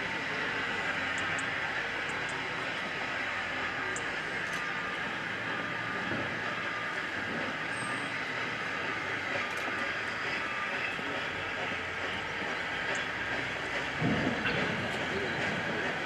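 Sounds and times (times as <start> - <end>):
train wheels rolling on rail: 0.0 - 16.0.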